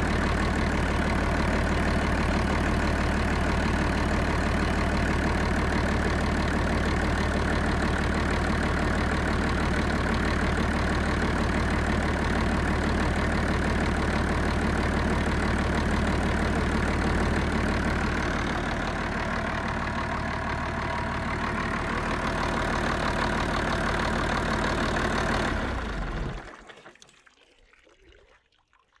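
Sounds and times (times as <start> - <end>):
diesel engine idling: 0.0 - 26.5.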